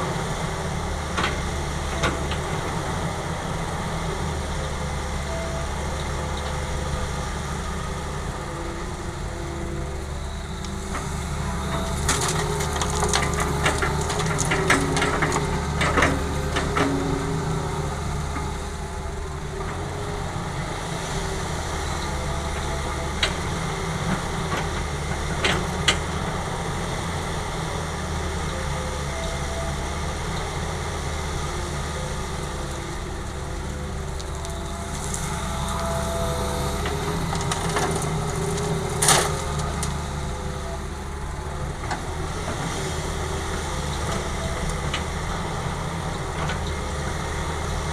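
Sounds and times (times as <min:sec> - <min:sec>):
diesel machinery running: 0:00.0 - 0:47.9.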